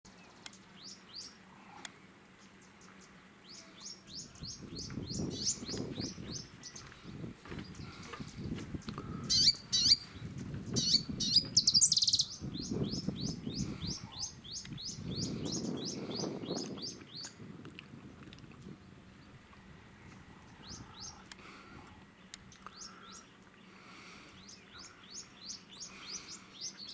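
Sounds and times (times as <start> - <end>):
birds chirping: 0.1 - 17.4, 18.6 - 26.9.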